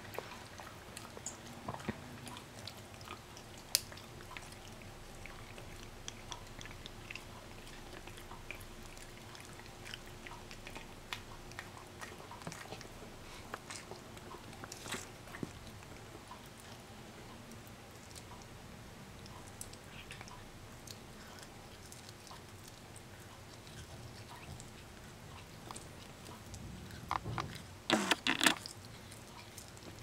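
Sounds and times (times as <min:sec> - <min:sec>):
cat chewing a treat: 0:00.1 - 0:18.5, 0:19.2 - 0:30.0.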